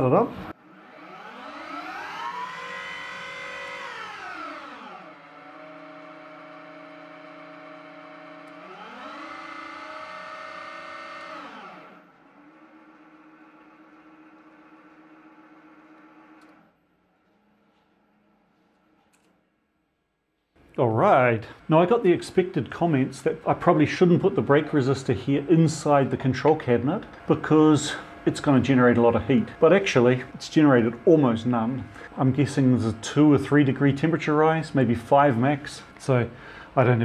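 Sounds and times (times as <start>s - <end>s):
lathe motor electric whine: 0.0s - 16.8s, 21.5s - 37.0s.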